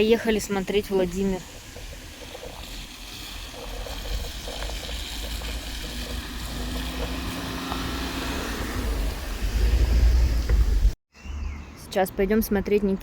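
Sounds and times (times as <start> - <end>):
tyre and wind noise hiss: 0.0 - 11.0
car road rumble: 0.0 - 11.6.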